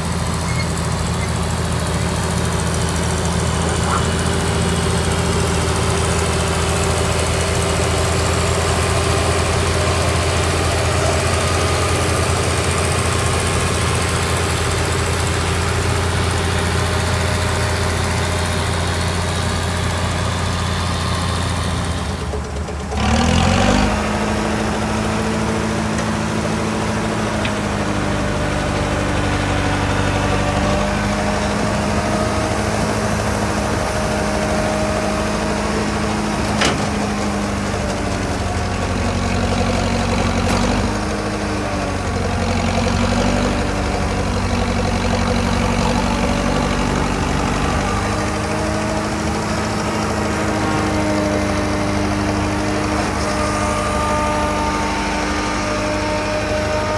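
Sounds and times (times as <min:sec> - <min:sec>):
crawler crane engine: 0:00.0 - 0:56.9
wheel loader engine running: 0:00.0 - 0:56.9.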